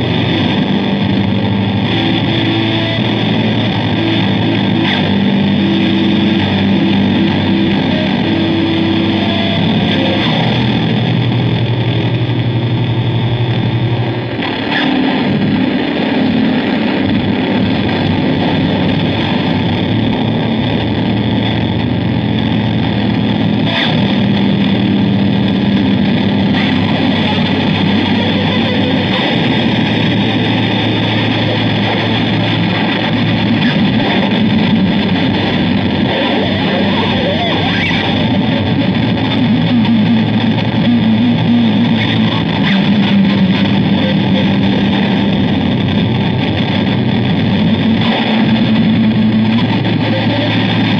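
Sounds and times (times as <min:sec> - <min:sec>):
distorted electric bass drone: 0:00.0 - 0:50.9.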